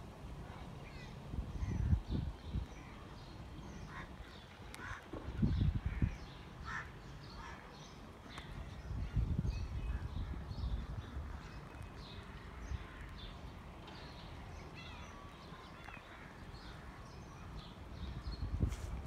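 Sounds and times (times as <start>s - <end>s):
birds calling: 0.5s - 19.0s.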